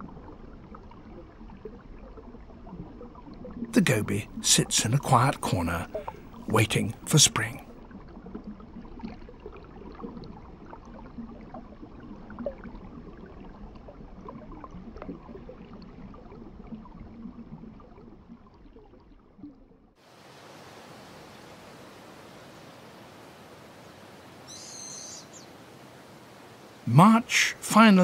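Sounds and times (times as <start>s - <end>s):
water trickling and bubbling: 0.0s - 27.2s.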